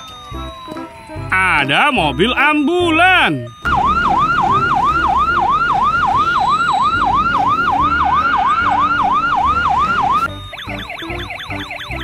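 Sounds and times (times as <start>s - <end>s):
police siren yelping: 0.0s - 12.0s
traffic rumble: 0.0s - 12.0s.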